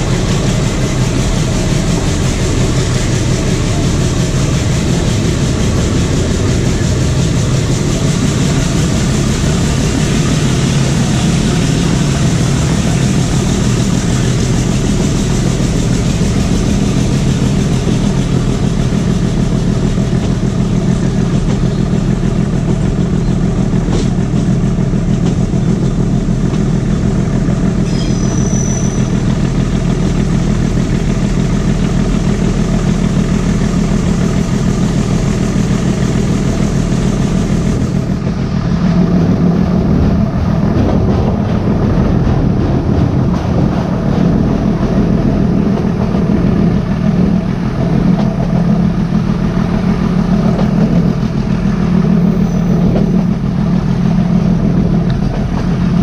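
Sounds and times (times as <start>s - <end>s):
diesel locomotive engine drone: 0.0s - 56.0s
train wheels rolling: 0.0s - 56.0s.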